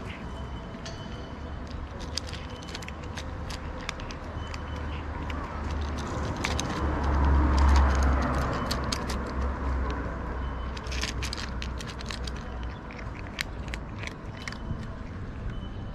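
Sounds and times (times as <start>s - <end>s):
cat crunching dry kibble: 1.6s - 15.2s
vehicle passing: 1.7s - 15.5s.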